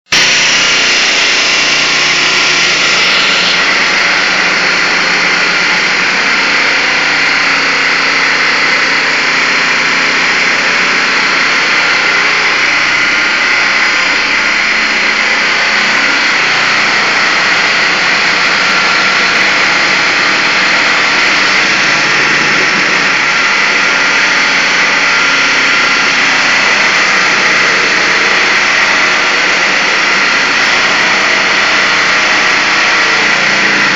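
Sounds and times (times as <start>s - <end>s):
concrete saw grinding: 0.0s - 33.9s.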